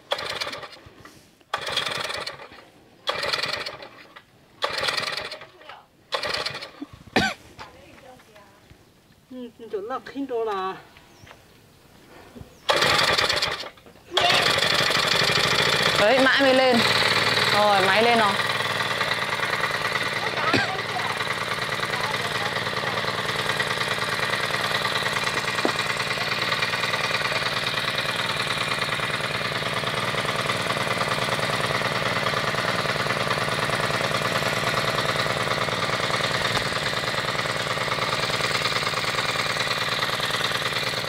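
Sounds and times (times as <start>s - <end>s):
soil compactor engine running: 0.0s - 7.3s, 12.7s - 41.0s.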